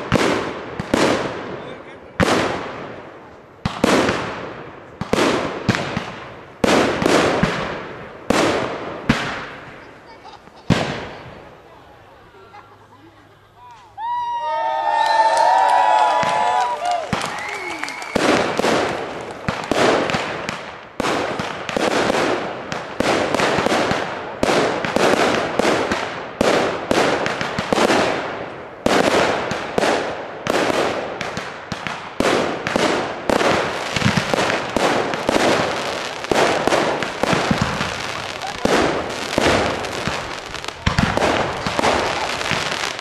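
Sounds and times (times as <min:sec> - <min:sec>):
fireworks banging: 0:00.0 - 0:14.0, 0:14.9 - 0:43.0
fireworks crackling: 0:00.0 - 0:43.0.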